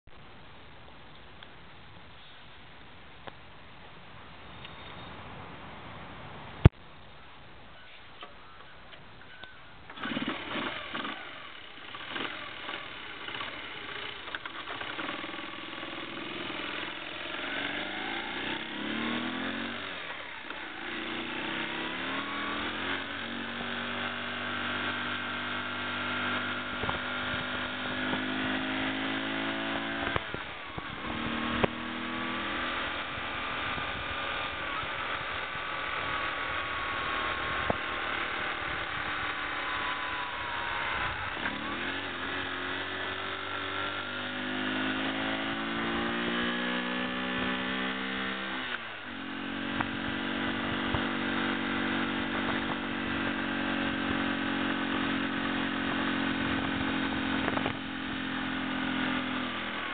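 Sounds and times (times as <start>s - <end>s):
motorcycle engine starting and idling: 7.8s - 59.9s
motorcycle pulling away through gears: 9.3s - 59.9s.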